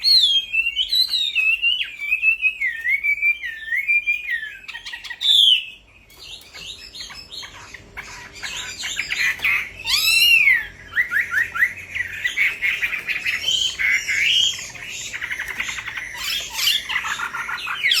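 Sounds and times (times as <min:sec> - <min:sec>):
bird song: 0:00.0 - 0:18.0.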